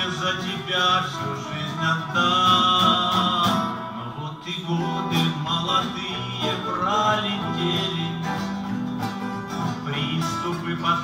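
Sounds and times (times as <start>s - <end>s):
acoustic guitar: 0.0s - 11.0s
mandolin plucking: 0.0s - 11.0s.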